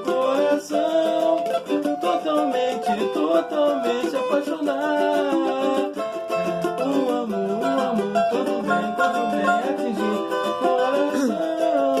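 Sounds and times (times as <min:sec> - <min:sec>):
percussion beat: 0:00.0 - 0:12.0
small guitar melody: 0:00.0 - 0:12.0.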